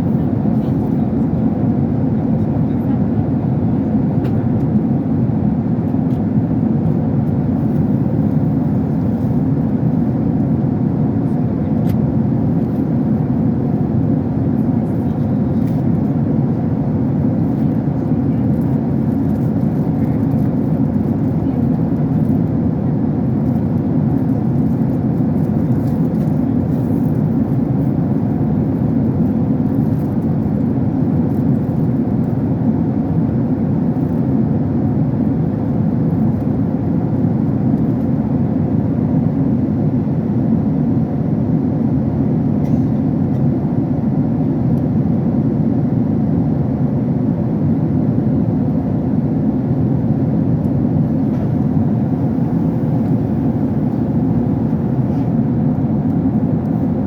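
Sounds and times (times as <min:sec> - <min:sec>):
airliner cabin engine and airflow noise: 0:00.0 - 0:57.0.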